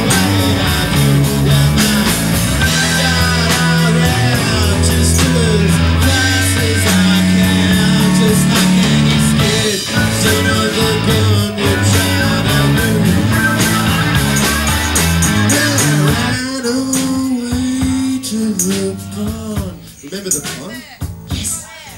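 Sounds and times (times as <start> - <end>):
blues-rock band playing live: 0.0 - 21.8.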